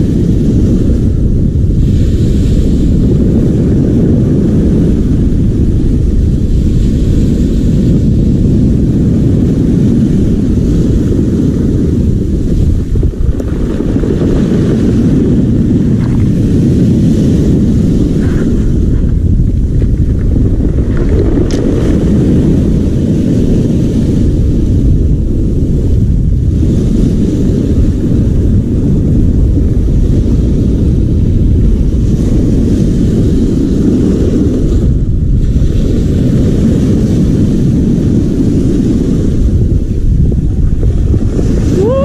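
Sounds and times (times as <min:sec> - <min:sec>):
surf breaking on pebble beach: 0:00.0 - 0:42.0
wind buffeting microphone: 0:00.0 - 0:42.0.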